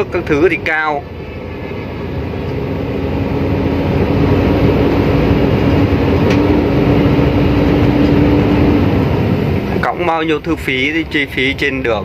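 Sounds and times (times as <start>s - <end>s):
road rumble: 0.0s - 12.0s
truck engine drone: 0.0s - 12.0s.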